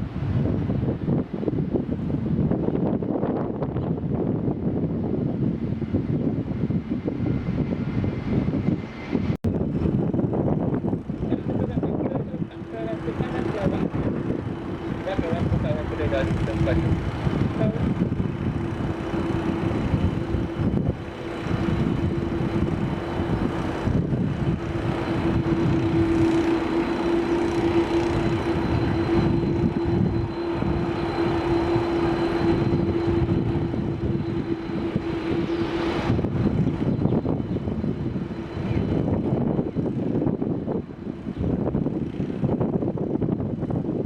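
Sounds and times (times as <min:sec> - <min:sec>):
jet engines humming: 0:00.0 - 0:44.0.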